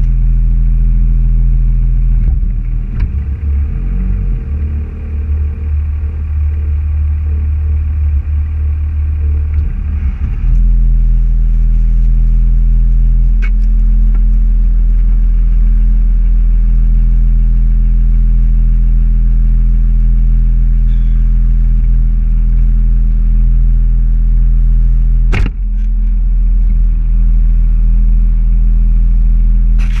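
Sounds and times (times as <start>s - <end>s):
car engine rumble: 0.0s - 30.0s.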